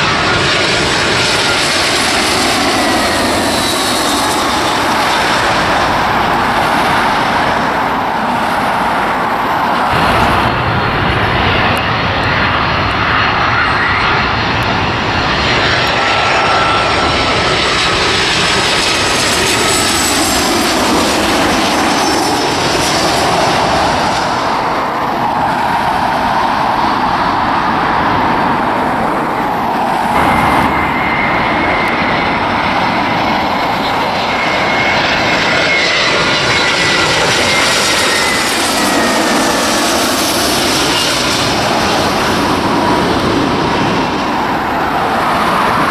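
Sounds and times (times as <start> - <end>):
high jet engine whine: 0.0 - 45.9
jet airliner passing overhead: 0.0 - 45.9.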